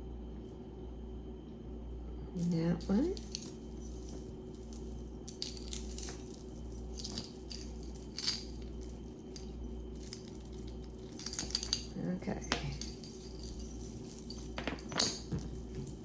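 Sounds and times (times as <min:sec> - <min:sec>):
metal chains clinking and jangling: 0:02.4 - 0:16.0.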